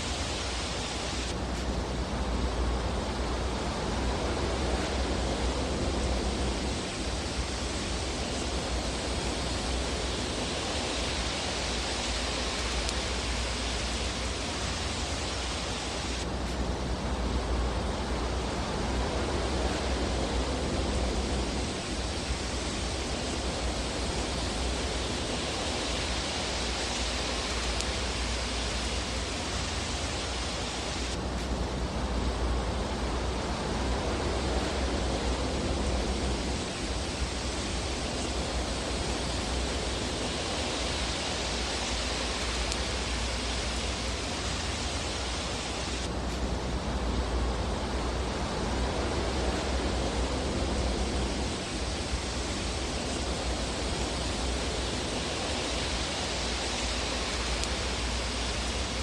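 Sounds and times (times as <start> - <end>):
fire hissing and rumbling: 0.0 - 59.0.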